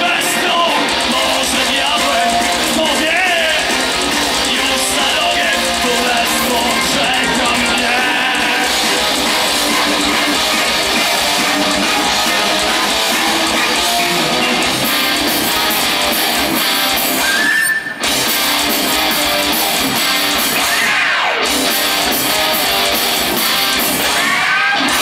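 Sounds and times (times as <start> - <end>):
drums: 0.0 - 25.0
electric guitars: 0.0 - 25.0.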